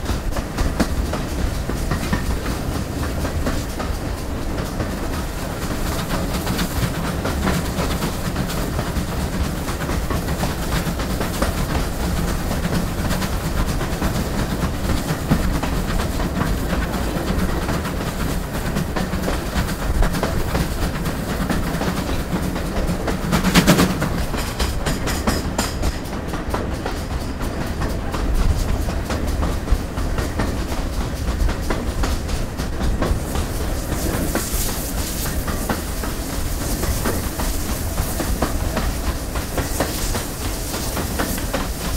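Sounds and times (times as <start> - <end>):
train wheels rattling on rails: 0.0 - 41.9.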